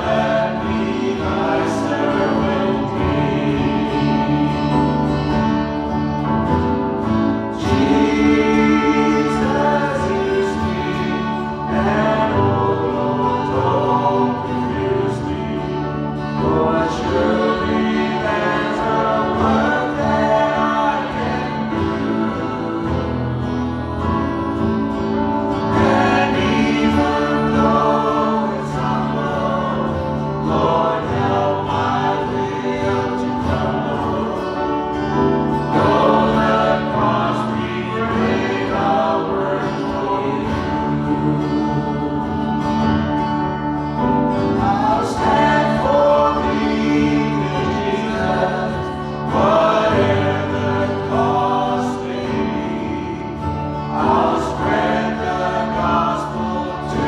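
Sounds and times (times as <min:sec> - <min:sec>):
backing instruments holding chords: 0:00.0 - 0:57.0
group singing worship song: 0:00.0 - 0:57.0.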